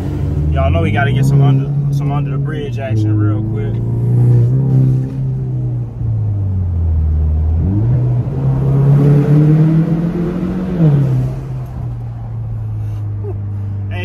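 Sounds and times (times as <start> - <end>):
car engine accelerating hard: 0.0 - 12.6.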